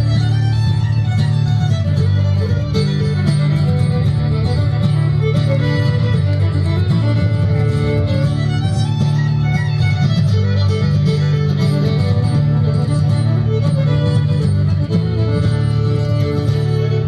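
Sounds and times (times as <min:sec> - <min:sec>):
fiddles playing melody: 0:00.0 - 0:17.0
plucked upright bass: 0:00.0 - 0:17.0
strummed acoustic guitar: 0:00.0 - 0:17.0.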